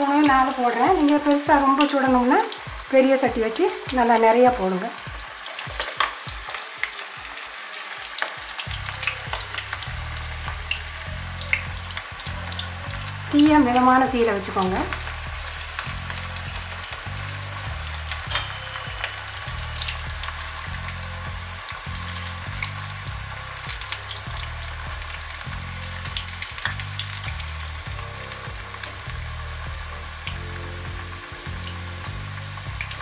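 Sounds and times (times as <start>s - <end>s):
food deep-frying in oil: 0.0s - 33.0s
low background music: 0.0s - 33.0s.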